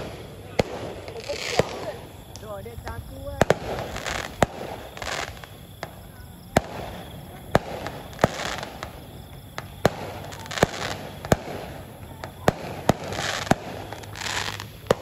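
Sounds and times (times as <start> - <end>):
firecrackers banging: 0.0 - 15.0
steady noisy background hiss: 0.0 - 15.0.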